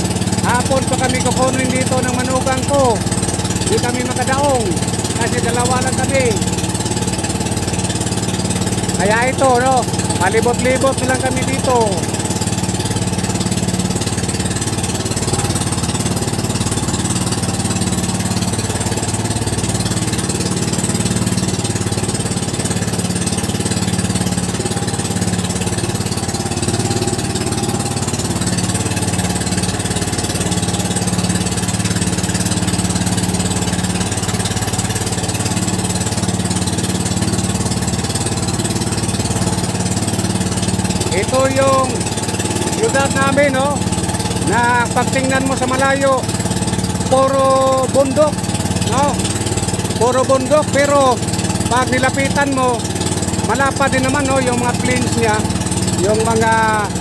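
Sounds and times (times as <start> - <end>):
small boat engine humming: 0.0 - 57.0
water rushing and splashing: 0.0 - 57.0.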